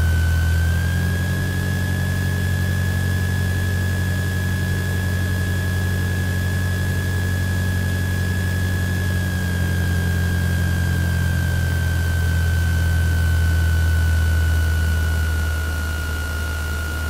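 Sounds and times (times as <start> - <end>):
aircraft engine deep drone: 0.0 - 17.0
propeller high whine: 0.0 - 17.0.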